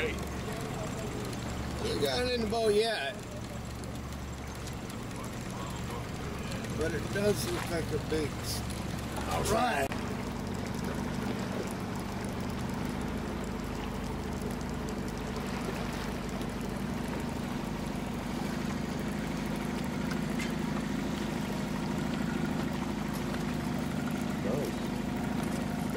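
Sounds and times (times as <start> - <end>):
boat motor running: 0.0 - 25.9
water splashing and trickling: 0.0 - 25.9.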